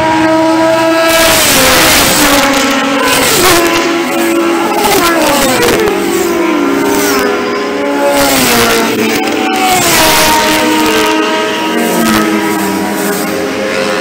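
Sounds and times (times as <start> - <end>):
motorcycles passing at speed: 0.0 - 14.0.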